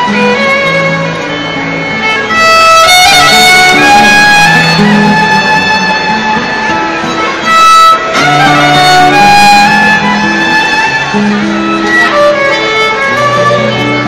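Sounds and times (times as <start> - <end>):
guitar playing: 0.0 - 14.0
violin melody: 0.0 - 14.0.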